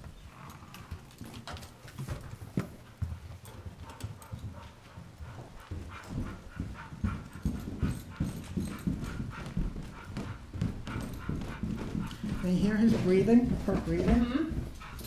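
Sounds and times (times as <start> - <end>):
footsteps on carpeted stairs: 0.0 - 15.0
dog breathing hard: 2.1 - 15.0.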